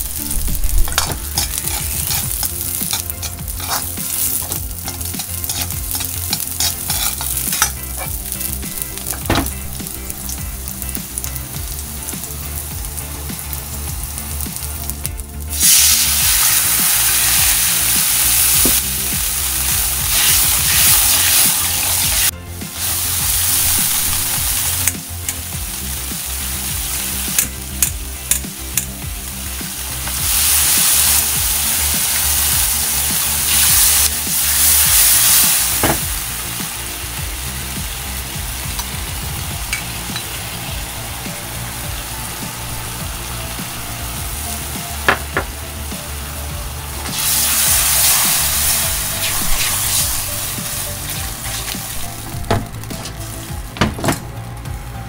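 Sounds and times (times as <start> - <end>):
sauce sizzling in a wok: 0.0 - 53.8.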